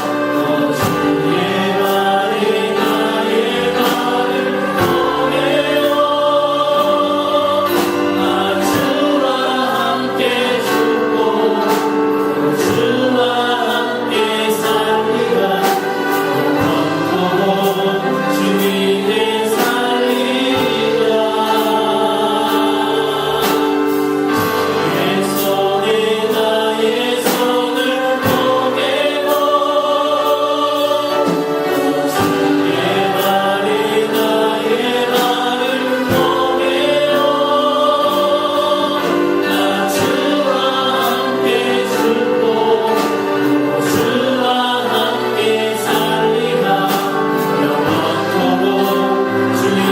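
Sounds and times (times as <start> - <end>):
group singing worship song: 0.0 - 49.9
instrumental accompaniment: 0.0 - 49.9
steady drum beat: 0.0 - 49.9.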